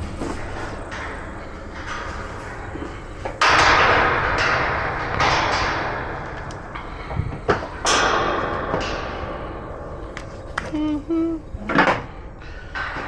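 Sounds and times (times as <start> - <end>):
rattling bang: 0.0 - 10.7.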